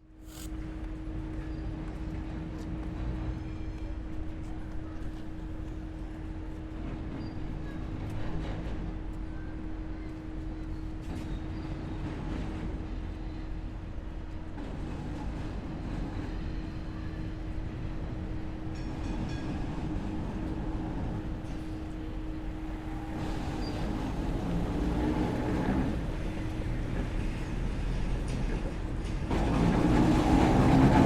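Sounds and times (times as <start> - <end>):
tram rumbling along street: 0.0 - 31.0.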